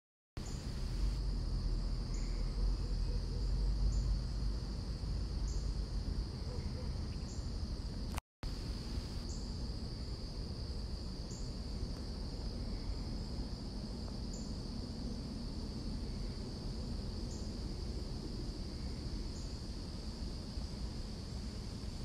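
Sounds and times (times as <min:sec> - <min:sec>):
crickets trilling: 0:00.4 - 0:22.0.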